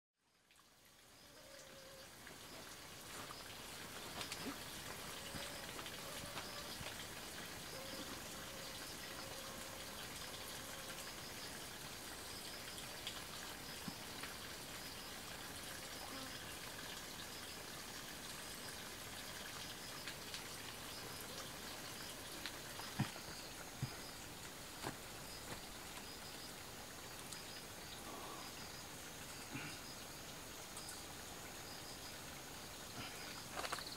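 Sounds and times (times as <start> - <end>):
steady hiss: 0.3 - 33.9.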